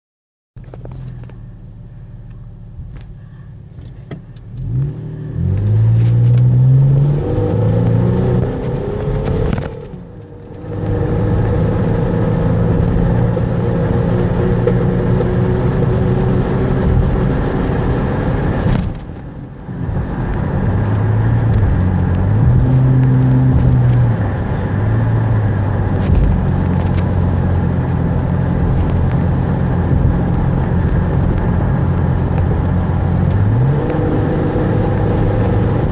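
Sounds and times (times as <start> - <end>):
car engine accelerating hard: 3.7 - 35.9.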